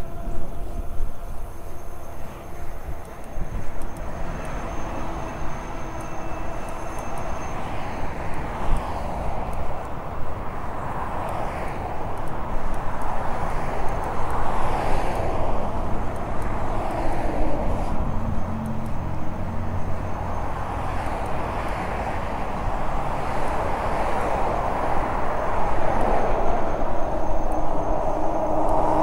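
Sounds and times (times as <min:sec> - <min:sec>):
tyre and drivetrain noise: 0:00.0 - 0:29.0
wind on microphone: 0:00.0 - 0:29.0.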